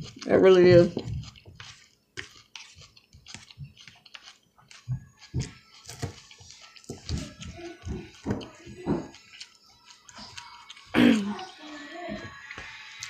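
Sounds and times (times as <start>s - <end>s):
chewing salad crunches: 0.0s - 13.0s.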